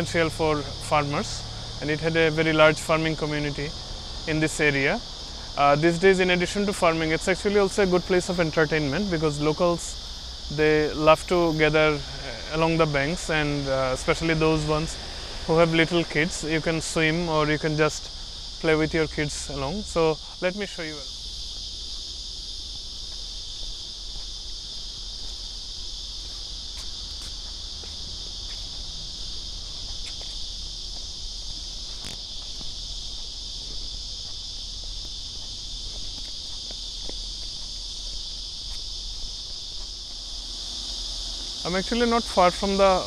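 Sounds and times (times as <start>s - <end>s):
insect chorus buzzing: 0.0s - 43.0s.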